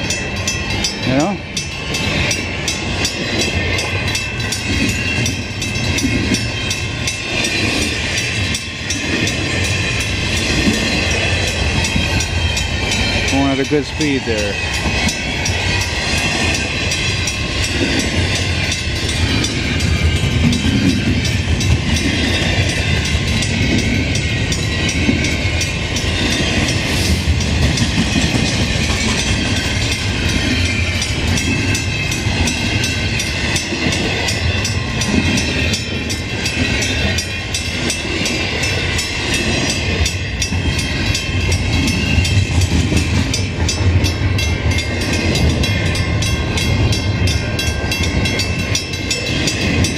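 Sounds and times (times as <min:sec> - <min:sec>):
freight train passing: 0:00.0 - 0:49.9
train wheels on rails: 0:00.0 - 0:49.9.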